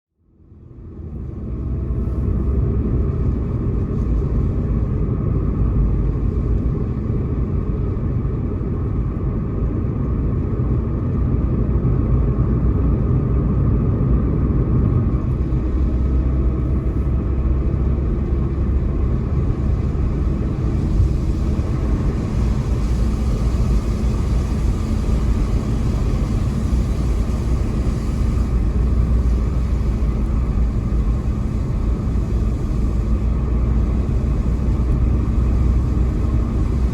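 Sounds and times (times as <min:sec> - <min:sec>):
car road noise: 0:00.2 - 0:36.9.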